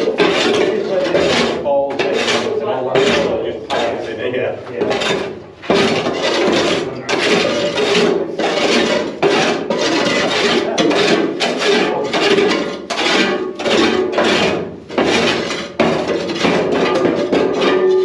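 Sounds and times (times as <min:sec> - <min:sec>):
brush sweeping floor: 0:00.0 - 0:18.0.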